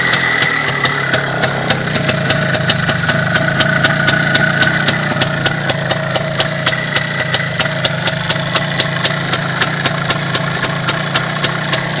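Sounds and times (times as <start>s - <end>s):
motorcycle engine idling: 0.0s - 12.0s
sharp regular ticking: 0.0s - 12.0s.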